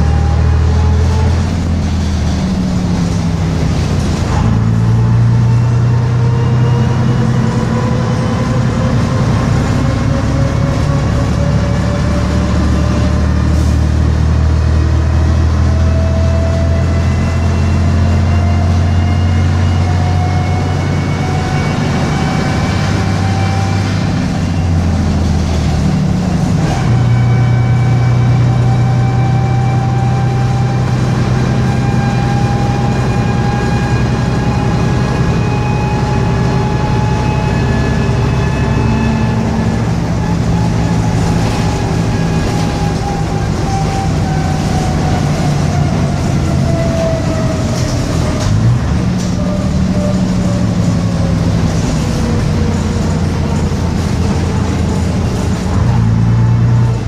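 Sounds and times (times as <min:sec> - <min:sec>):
bus diesel engine whining: 0:00.0 - 0:57.0.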